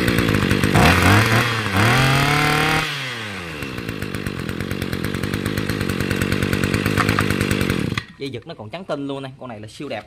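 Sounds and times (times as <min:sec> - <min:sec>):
brush cutter engine revving: 0:00.0 - 0:08.2.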